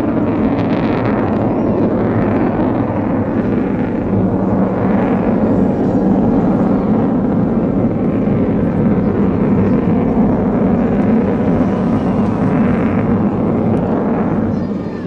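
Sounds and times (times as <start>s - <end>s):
jet bomber flying past: 0.0s - 15.0s.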